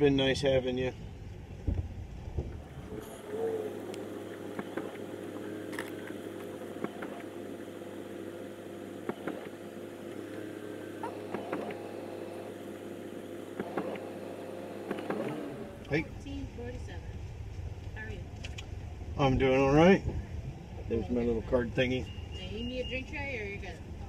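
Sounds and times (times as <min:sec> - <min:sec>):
car idling: 0:00.0 - 0:24.0.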